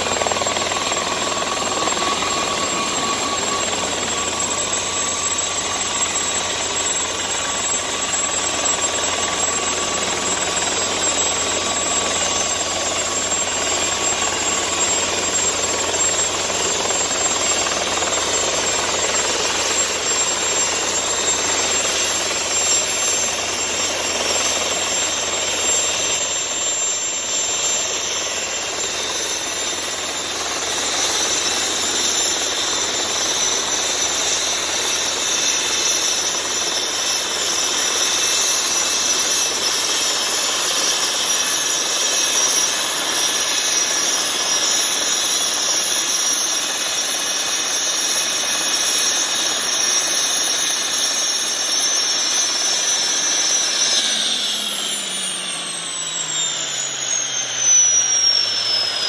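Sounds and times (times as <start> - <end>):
helicopter rotor turning: 0.0 - 59.0
helicopter turbine whine: 0.0 - 59.0.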